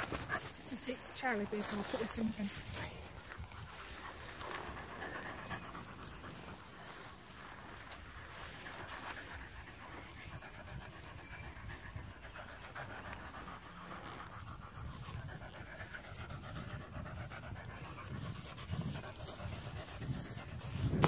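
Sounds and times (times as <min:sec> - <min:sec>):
dog panting hard: 0:00.0 - 0:21.0.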